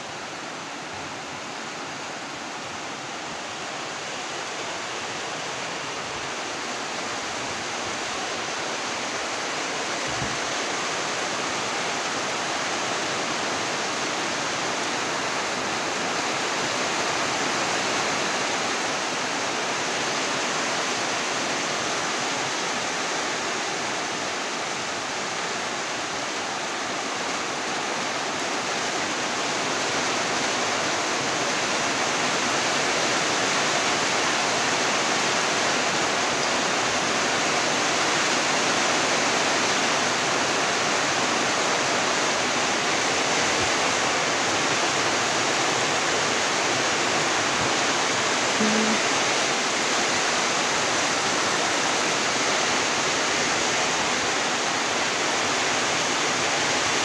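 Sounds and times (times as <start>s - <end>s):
steady rainfall hiss: 0.0s - 57.0s.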